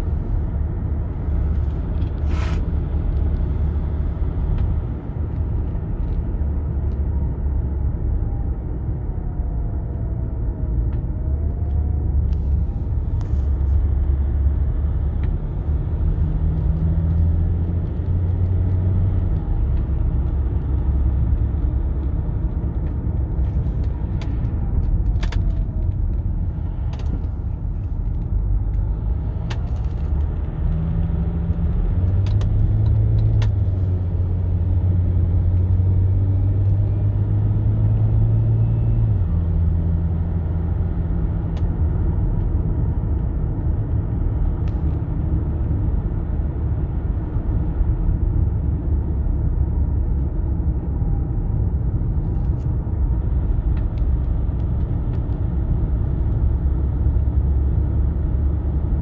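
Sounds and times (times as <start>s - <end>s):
diesel car engine drone: 0.0s - 59.0s
tyre and road rumble: 0.0s - 59.0s.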